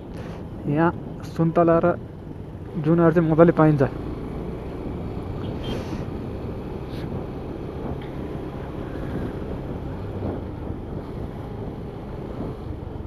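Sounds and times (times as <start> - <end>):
motorcycle engine drone: 0.0 - 13.0
wind rumbling on microphone: 0.0 - 13.0.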